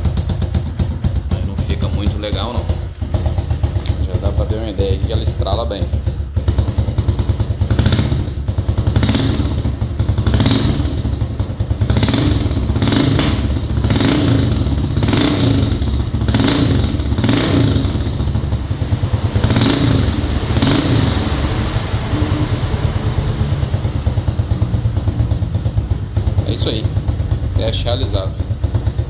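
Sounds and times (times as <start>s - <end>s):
exhaust popping and crackling: 0.0s - 29.0s
motorcycle engine revving: 0.0s - 29.0s.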